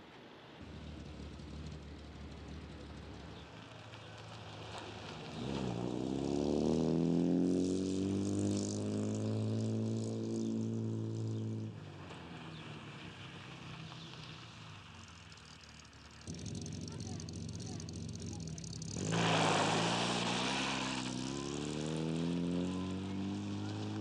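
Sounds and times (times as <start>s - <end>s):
faint road noise: 0.0s - 24.0s
car engine revving: 0.6s - 24.0s.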